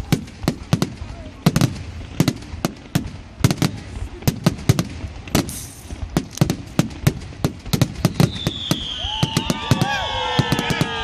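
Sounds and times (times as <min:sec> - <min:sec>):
fireworks bursting with bangs: 0:00.0 - 0:11.0
hissing crackle of fireworks: 0:00.0 - 0:11.0.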